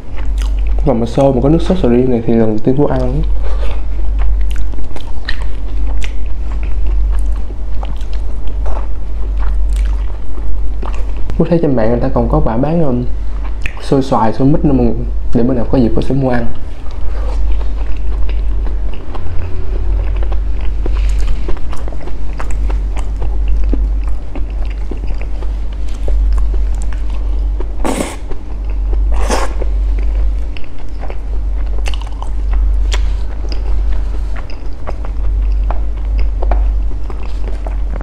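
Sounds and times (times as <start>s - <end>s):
wet chewing sounds: 0.0s - 11.4s, 13.4s - 14.2s, 16.0s - 38.0s
deep low rumble: 0.0s - 38.0s.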